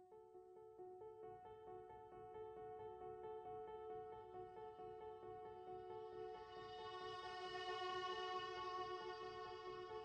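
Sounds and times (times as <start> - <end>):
quiet background music: 1.4 - 10.0.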